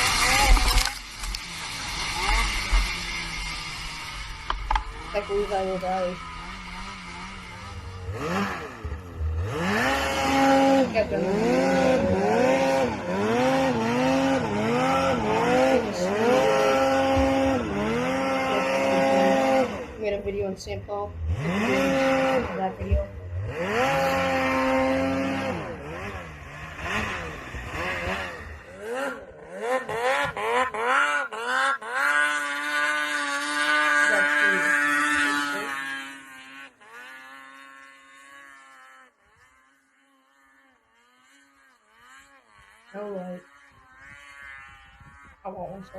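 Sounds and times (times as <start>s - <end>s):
snowmobile engine revving: 0.0s - 45.9s.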